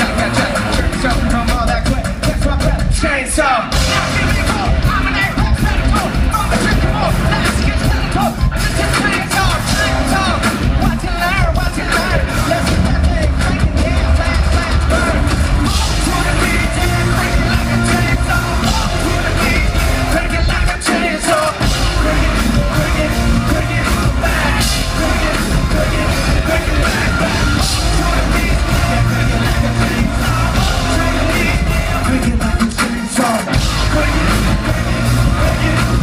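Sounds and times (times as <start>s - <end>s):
bass guitar: 0.0s - 36.0s
distorted electric guitars: 0.0s - 36.0s
rock drums: 0.0s - 36.0s
shouted rock vocals: 0.0s - 36.0s.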